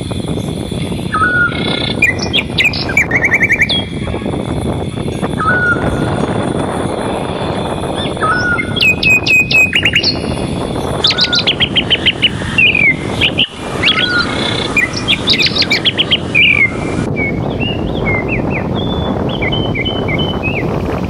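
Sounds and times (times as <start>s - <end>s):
birds chirping: 0.0s - 21.0s
wind rushing: 0.0s - 21.0s
low whistled bird note: 0.4s - 20.7s.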